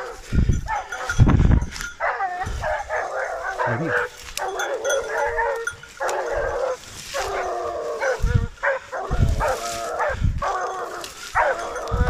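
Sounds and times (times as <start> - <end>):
dogs baying: 0.0 - 12.0.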